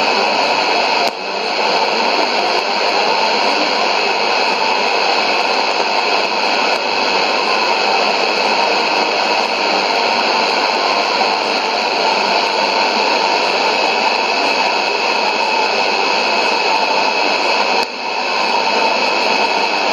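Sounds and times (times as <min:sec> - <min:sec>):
radio static hiss: 0:00.0 - 0:19.9.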